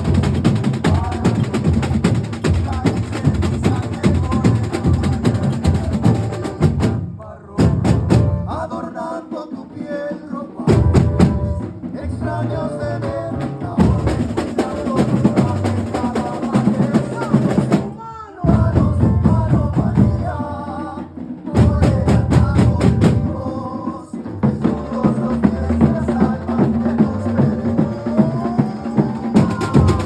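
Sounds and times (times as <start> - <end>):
drum section playing: 0.0 - 30.0.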